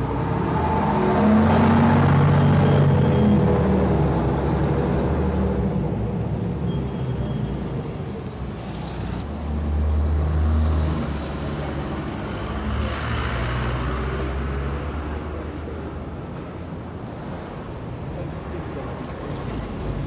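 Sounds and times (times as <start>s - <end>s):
traffic engines droning: 0.0s - 20.0s.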